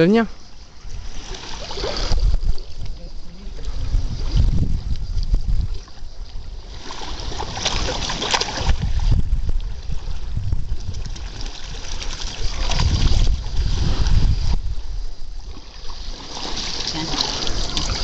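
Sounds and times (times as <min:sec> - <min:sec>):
running water: 0:00.0 - 0:18.0
wind rumble on microphone: 0:00.0 - 0:18.0.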